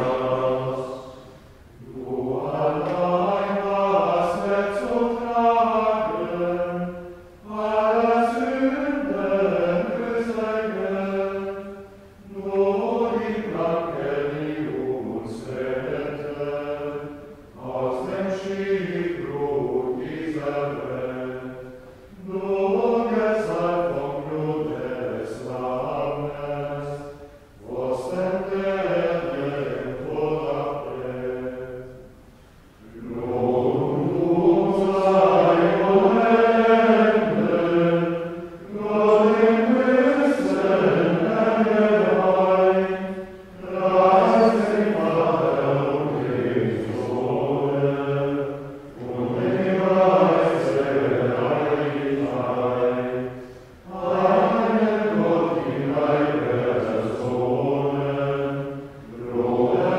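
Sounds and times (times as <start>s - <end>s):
male choir singing plainchant: 0.0s - 32.1s, 32.8s - 59.9s.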